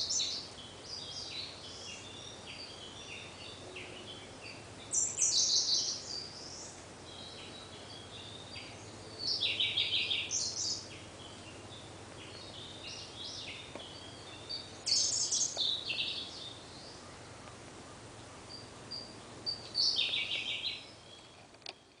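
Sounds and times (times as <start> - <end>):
bird singing rattling notes: 0.0 - 17.2, 17.9 - 22.0.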